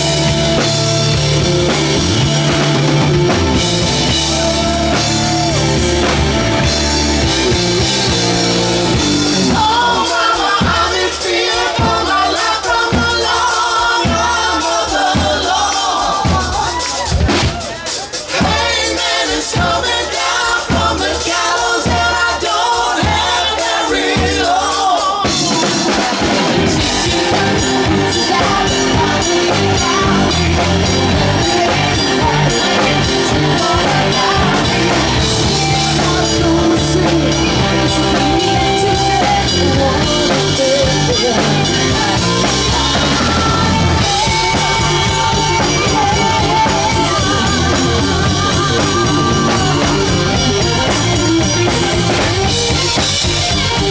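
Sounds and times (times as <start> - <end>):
person singing: 0.0 - 52.9
drums: 0.0 - 53.9
live band playing: 0.0 - 53.9.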